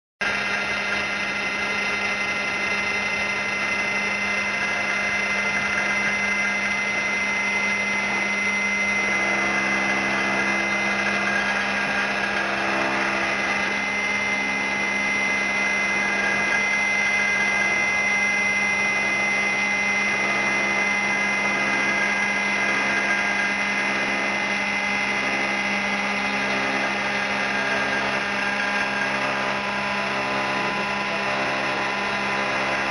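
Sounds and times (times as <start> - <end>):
log milling machine whine: 0.2 - 32.9.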